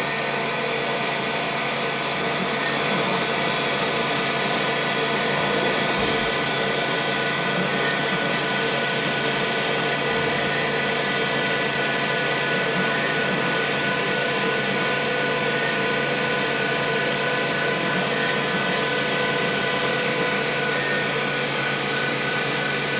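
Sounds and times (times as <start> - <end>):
machining centre whirring: 0.0 - 22.9
spindle whine: 0.0 - 22.9.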